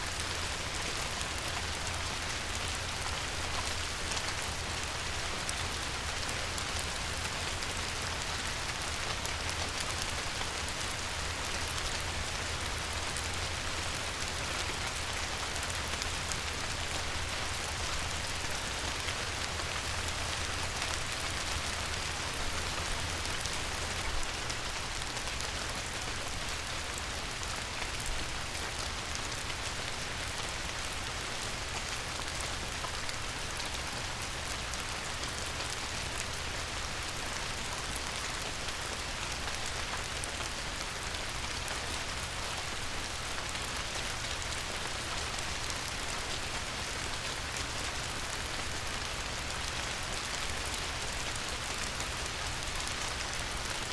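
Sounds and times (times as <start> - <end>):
light rain on a river: 0.0 - 53.9.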